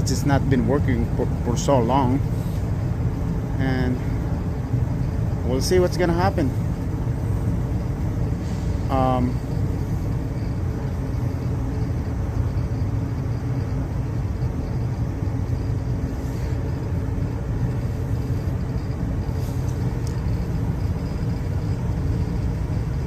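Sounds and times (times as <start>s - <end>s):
gas furnace humming: 0.0s - 23.0s.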